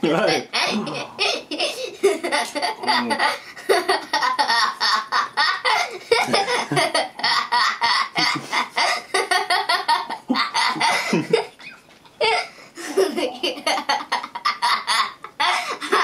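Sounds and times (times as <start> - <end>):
girl laughing hard: 0.2 - 16.0.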